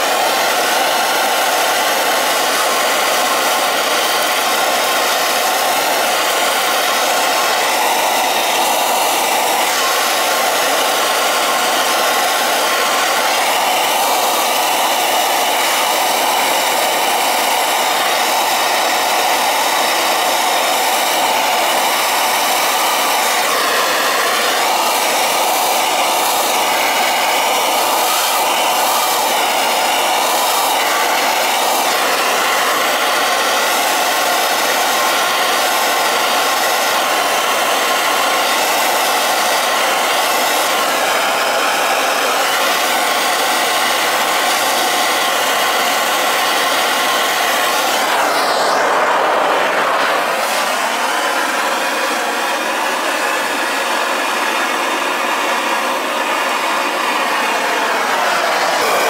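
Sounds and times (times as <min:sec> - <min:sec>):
gas torch hissing: 0:00.0 - 0:54.1, 0:55.0 - 0:59.0.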